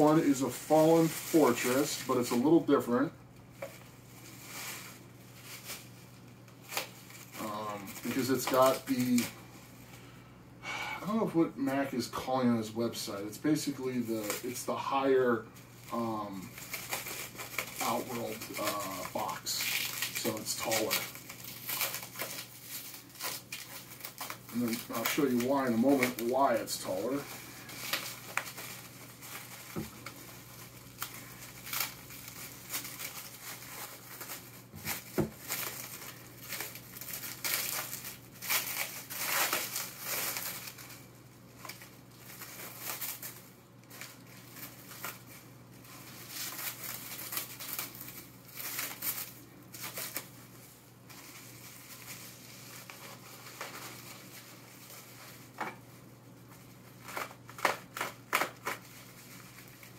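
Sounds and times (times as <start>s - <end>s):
plastic wrap crinkling and tearing: 0.0s - 10.0s, 11.1s - 59.9s.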